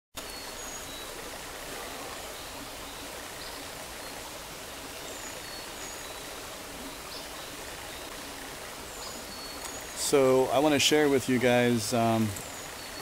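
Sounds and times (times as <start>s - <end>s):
creek rushing and trickling: 0.2s - 13.0s.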